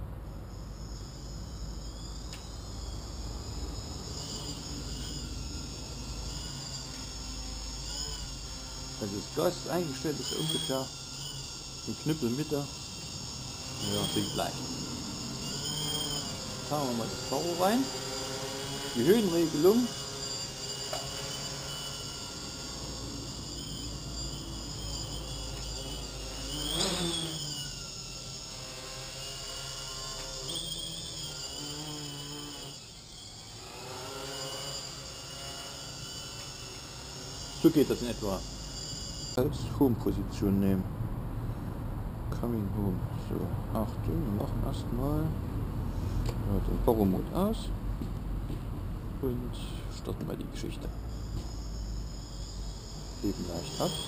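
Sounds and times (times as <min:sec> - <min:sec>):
multicopter motors whining: 0:00.0 - 0:54.0.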